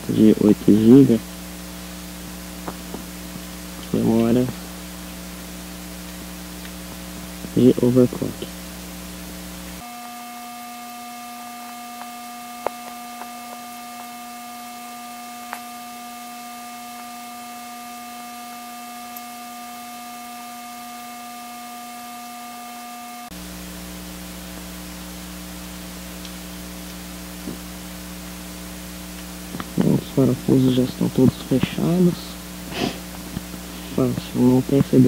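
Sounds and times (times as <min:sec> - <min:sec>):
electrical hum and hiss: 0:00.0 - 0:35.0.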